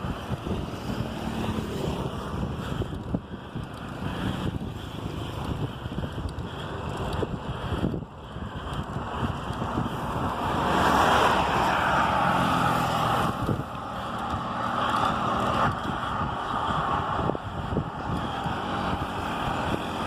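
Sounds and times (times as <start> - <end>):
low engine hum: 0.0 - 20.0
road noise: 0.0 - 20.0
wind rushing over microphone: 0.0 - 20.0.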